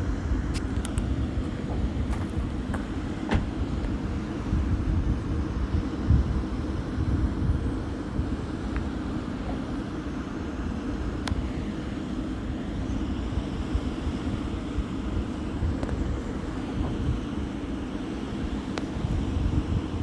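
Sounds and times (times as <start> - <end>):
wind turbine rumbling: 0.0 - 20.0.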